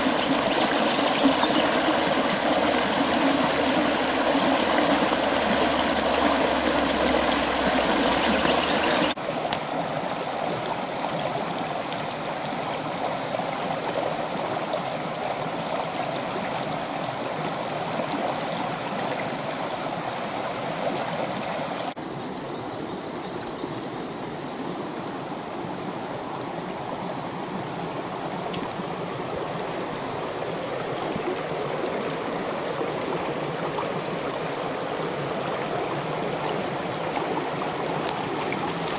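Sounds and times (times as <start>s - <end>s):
creek water babbling: 0.0s - 22.0s, 24.6s - 38.9s.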